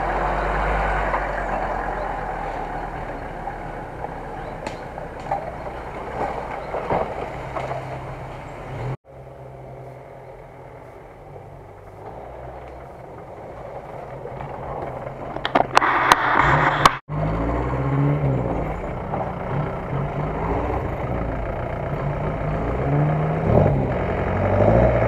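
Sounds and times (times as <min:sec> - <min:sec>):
off-road vehicle engines running: 0:00.0 - 0:25.0
vehicle passing close: 0:00.0 - 0:25.0.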